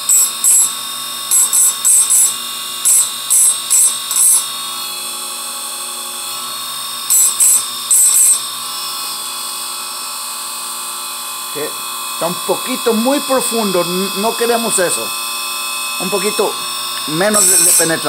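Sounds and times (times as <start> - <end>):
sharpener motor running: 0.0 - 18.0.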